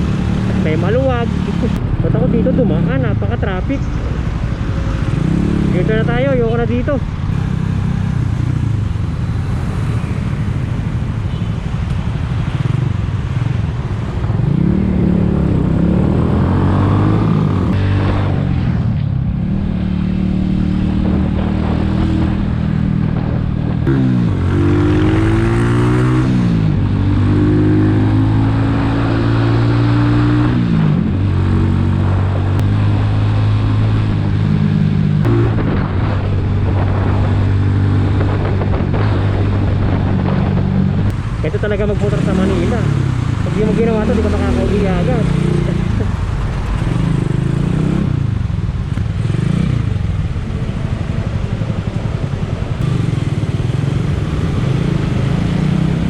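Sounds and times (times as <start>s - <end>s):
motorcycle engine accelerating: 4.0s - 11.1s, 12.4s - 56.0s.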